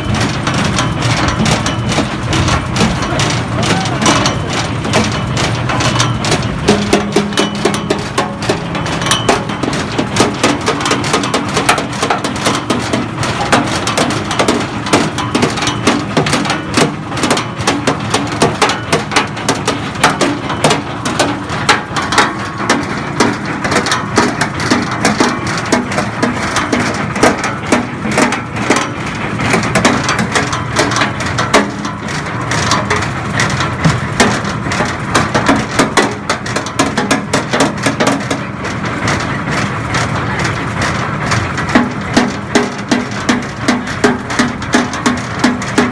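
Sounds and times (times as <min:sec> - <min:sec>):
machine clattering and knocking: 0:00.0 - 0:45.9.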